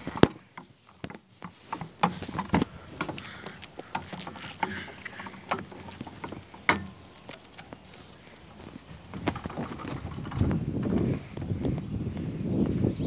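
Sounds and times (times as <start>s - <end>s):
clicks and knocks on metal deck: 0.0s - 10.6s
footsteps on metal deck: 0.0s - 13.0s.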